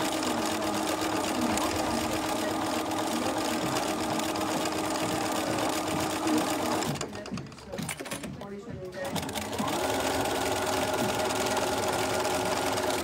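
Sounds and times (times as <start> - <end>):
sewing machine stitching: 0.0 - 8.4, 9.0 - 13.0.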